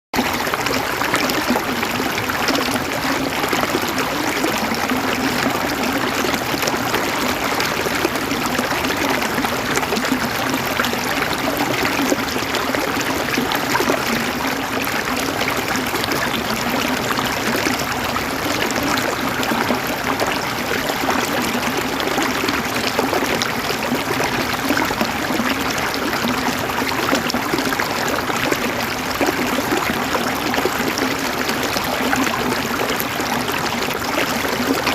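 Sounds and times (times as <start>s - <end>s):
river water flowing over rocks: 0.2s - 34.9s.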